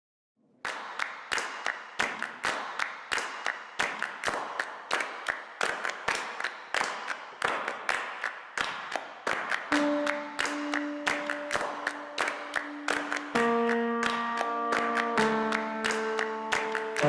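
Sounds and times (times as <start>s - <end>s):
rhythmic clapping: 0.6s - 17.0s.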